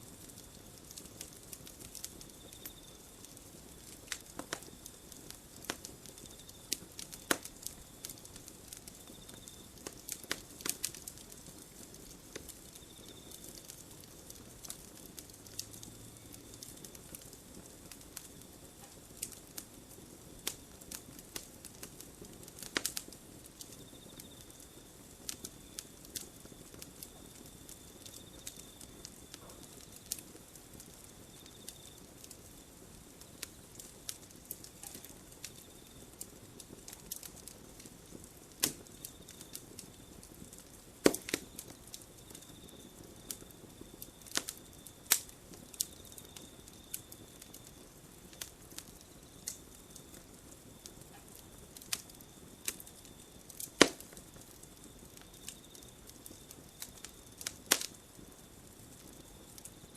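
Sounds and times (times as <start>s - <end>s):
campfire crackling and popping: 0.0s - 59.9s
faint high continuous tone: 0.0s - 59.9s.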